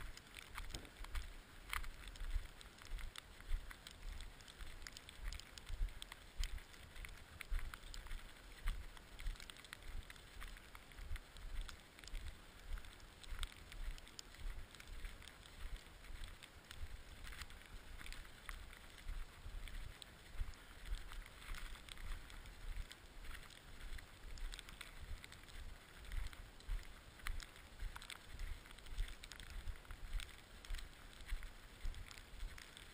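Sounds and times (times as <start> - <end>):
faint clicks: 0.0 - 32.9.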